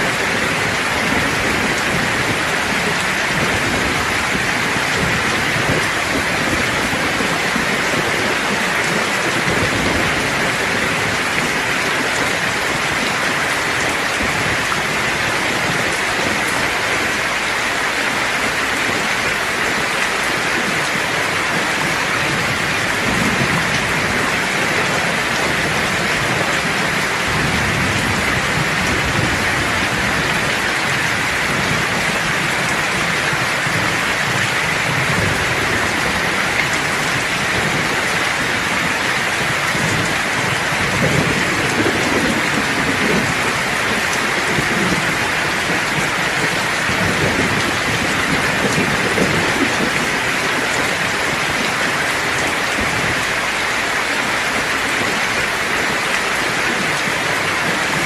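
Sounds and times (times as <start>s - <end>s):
heavy rain hissing: 0.0s - 58.0s
thunder rumbling: 0.0s - 58.0s.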